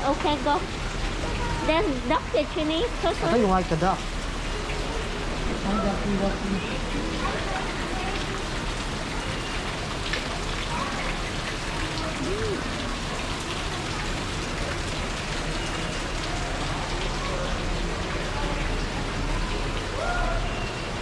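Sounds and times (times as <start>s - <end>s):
falling water rushing: 0.0s - 21.0s.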